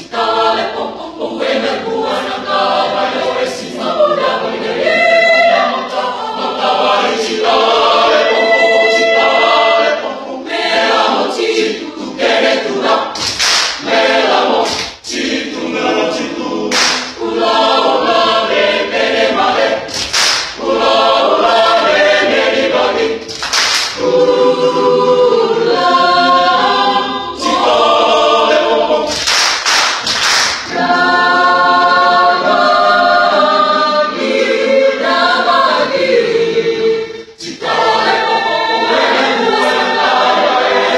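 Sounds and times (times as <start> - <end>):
choir singing a cappella: 0.0 - 29.3, 29.9 - 40.9.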